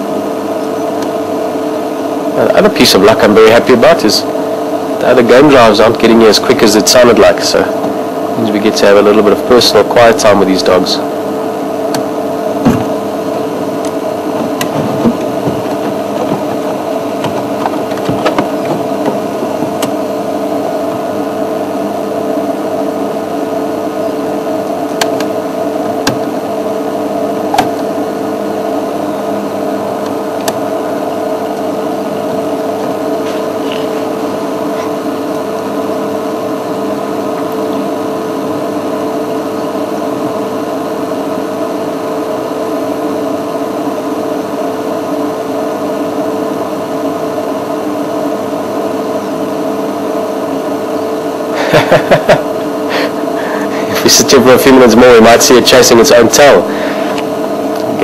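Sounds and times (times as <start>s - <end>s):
mechanical hum: 0.0s - 58.0s.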